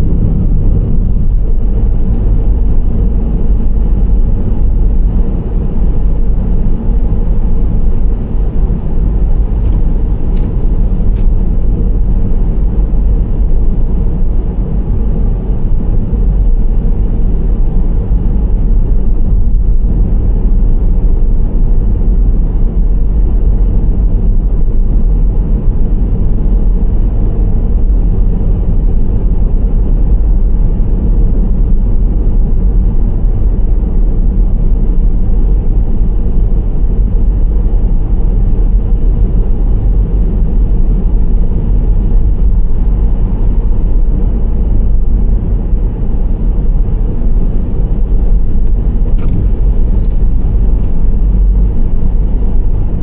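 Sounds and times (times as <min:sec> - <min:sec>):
vehicle engine and road rumble: 0:00.0 - 0:53.0.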